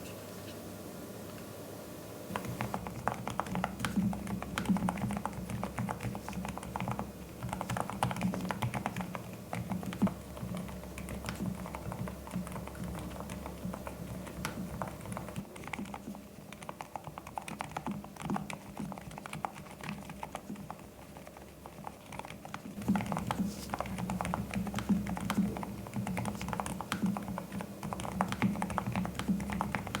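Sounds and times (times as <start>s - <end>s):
soft damped keyboard clicks: 2.3s - 30.0s.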